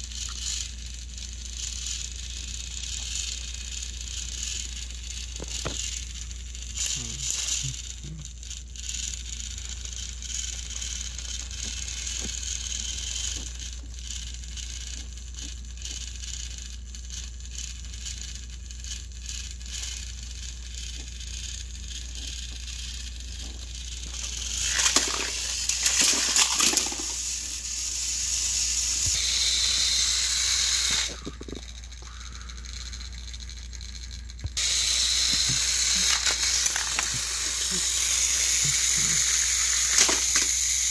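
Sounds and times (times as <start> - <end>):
toy train motors whirring: 0.0 - 40.9.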